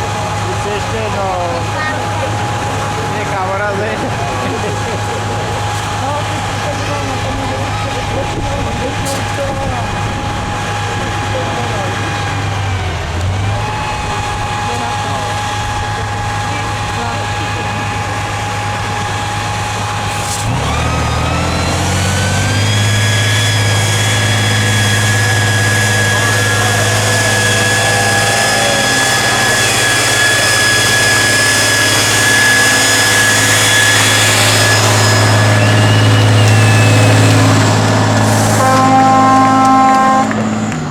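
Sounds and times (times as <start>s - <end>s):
diesel truck engine whining: 0.0s - 40.9s.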